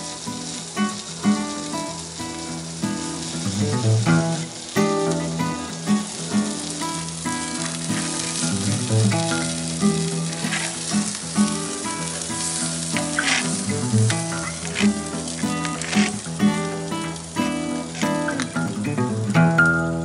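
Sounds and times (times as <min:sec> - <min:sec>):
chicken sizzling on a grill: 0:00.0 - 0:20.0.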